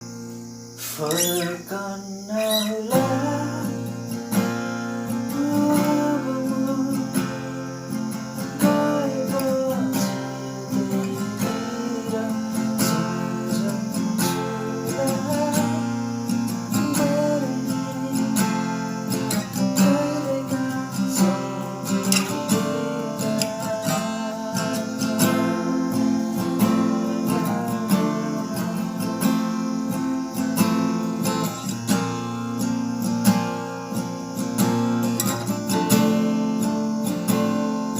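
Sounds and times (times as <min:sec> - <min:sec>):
acoustic guitar music: 0:00.0 - 0:37.9.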